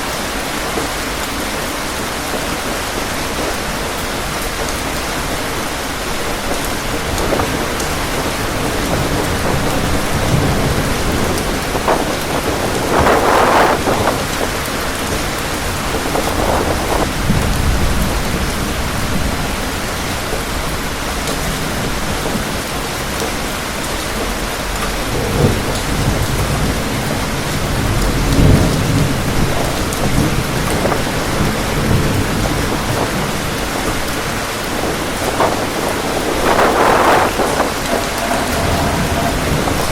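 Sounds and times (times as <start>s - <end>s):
heavy rain: 0.0s - 39.9s
wind: 0.0s - 39.9s.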